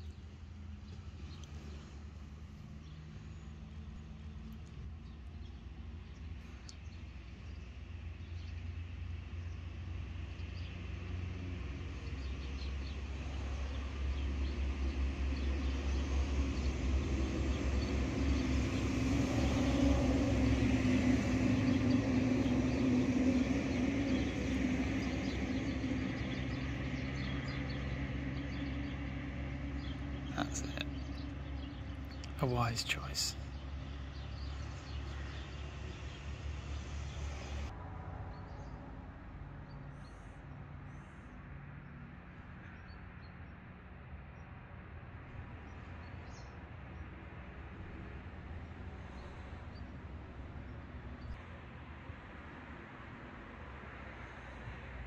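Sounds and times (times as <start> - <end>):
vehicle engine and tyre noise: 0.0 - 32.4, 33.0 - 55.0.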